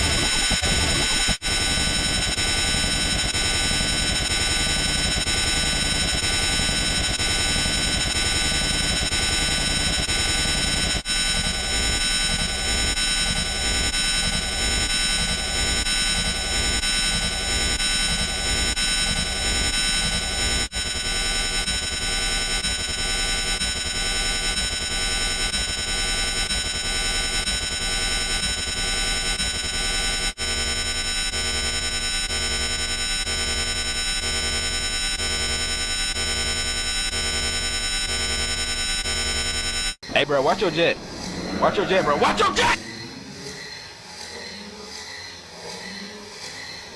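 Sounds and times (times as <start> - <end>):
harsh electronic noise: 0.0 - 44.1.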